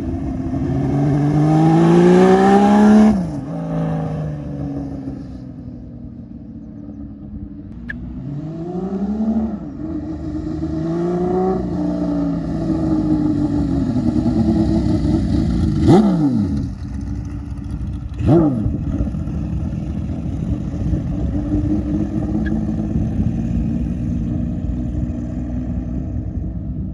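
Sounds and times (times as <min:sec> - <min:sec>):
motorcycle accelerating and passing: 0:00.0 - 0:26.9.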